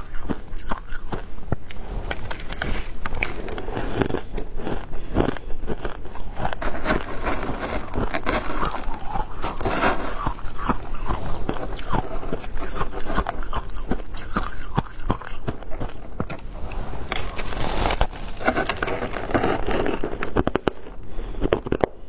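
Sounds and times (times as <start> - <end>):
person chewing shaved ice: 0.0 - 22.0.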